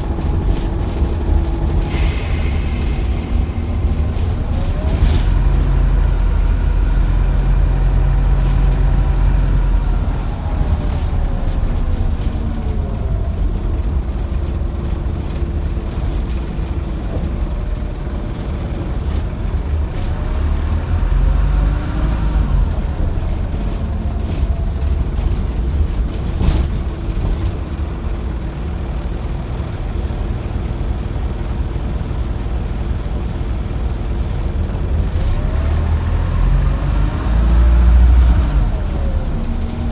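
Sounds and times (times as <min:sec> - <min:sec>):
bus diesel engine rumble: 0:00.0 - 0:39.9.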